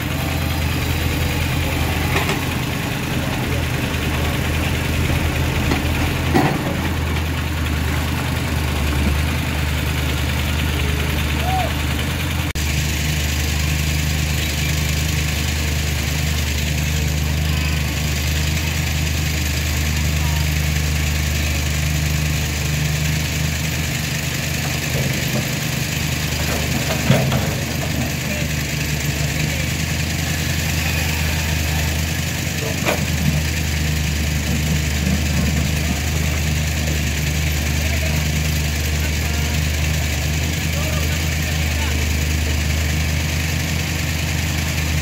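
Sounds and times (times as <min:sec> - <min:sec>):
truck engine idling: 0:00.0 - 0:45.0.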